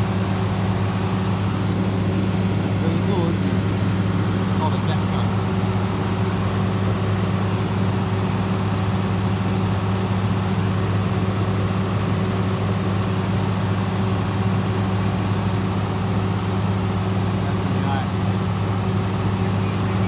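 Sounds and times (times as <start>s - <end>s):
fire engine humming: 0.0s - 20.0s.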